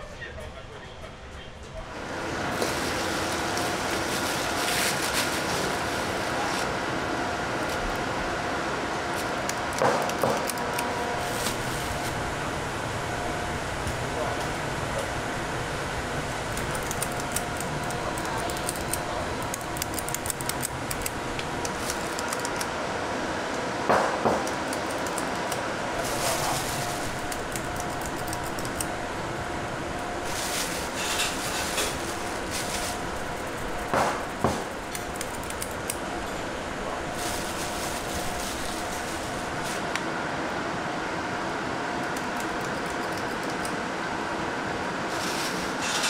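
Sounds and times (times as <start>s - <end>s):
kitchen machinery hum: 0.0s - 46.0s.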